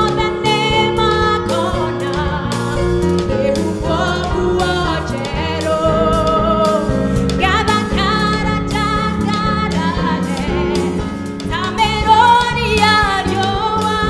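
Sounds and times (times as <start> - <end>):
bass guitar: 0.0 - 14.0
drum kit and cymbals: 0.0 - 14.0
singers: 0.0 - 14.0.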